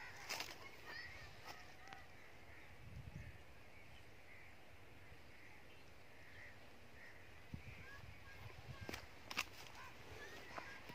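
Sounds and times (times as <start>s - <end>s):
distant bird calls: 0.0s - 10.9s.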